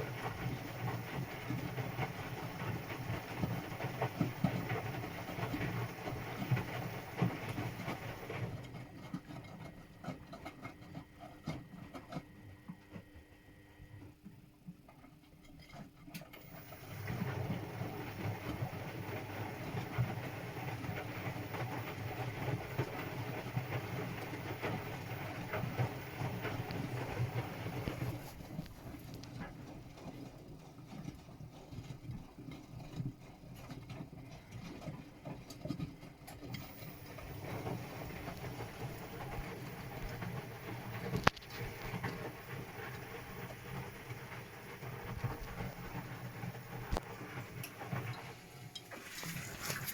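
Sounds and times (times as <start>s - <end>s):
washing machine drum churning: 0.0s - 12.2s, 16.4s - 49.9s.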